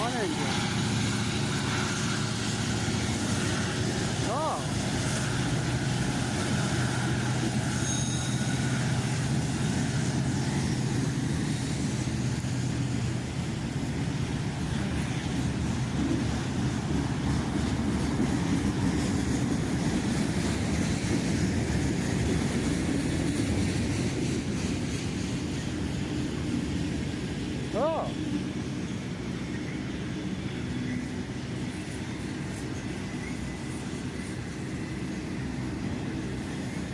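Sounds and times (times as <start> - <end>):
locomotive engine hum: 0.0 - 36.9
train cars rumbling on rails: 0.0 - 36.9.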